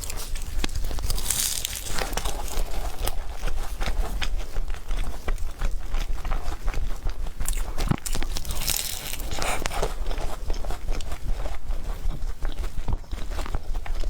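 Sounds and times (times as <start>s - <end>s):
chewing and eating: 0.0s - 14.0s.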